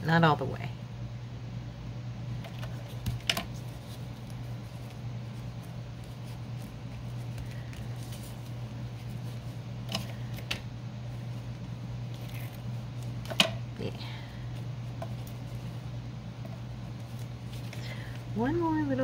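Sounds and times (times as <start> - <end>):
low hum: 0.0 - 19.0
rustling at craft table: 2.4 - 18.9.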